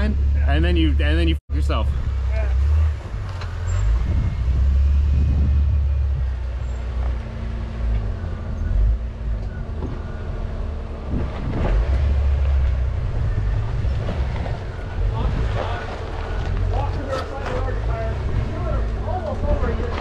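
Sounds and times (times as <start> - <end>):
engine and tyres rumbling: 0.0 - 20.0.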